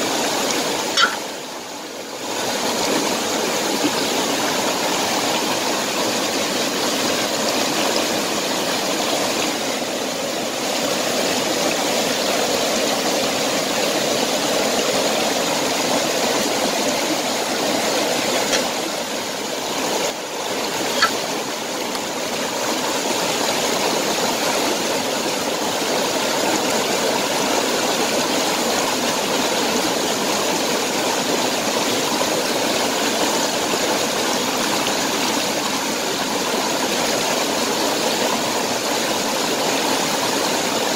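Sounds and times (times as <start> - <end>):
stream water rushing over rocks: 0.0 - 40.9.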